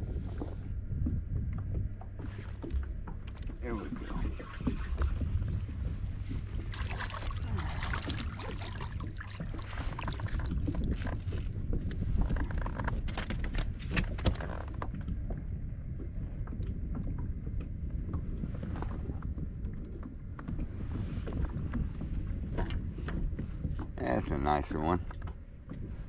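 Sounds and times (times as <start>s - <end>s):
water around a kayak: 0.0s - 26.0s
wind rumble on microphone: 0.0s - 26.0s.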